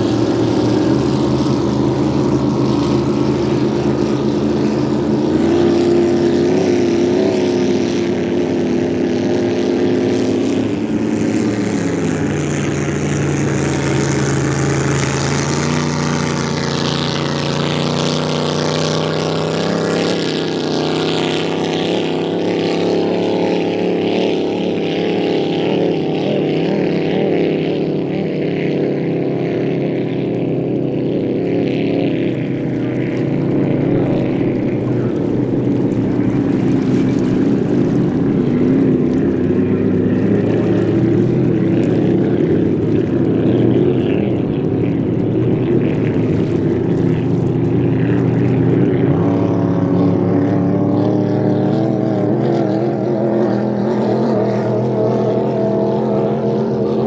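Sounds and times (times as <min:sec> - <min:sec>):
racing boat engine drone: 0:00.0 - 0:57.0.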